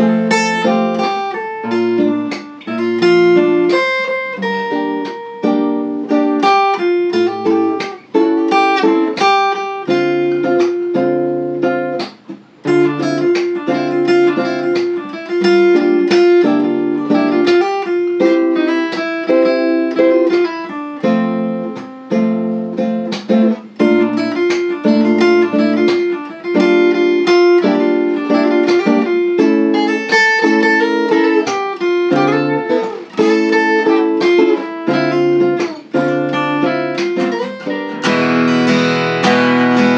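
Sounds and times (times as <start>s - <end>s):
acoustic guitar music: 0.0s - 39.9s.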